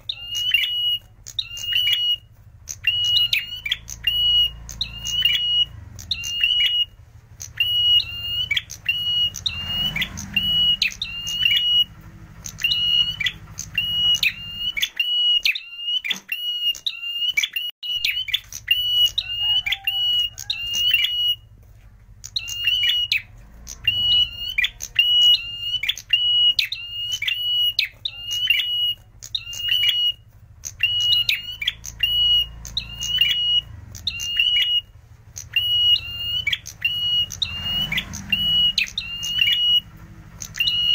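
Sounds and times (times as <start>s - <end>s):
bird calling sharp repeated notes: 0.0s - 40.9s.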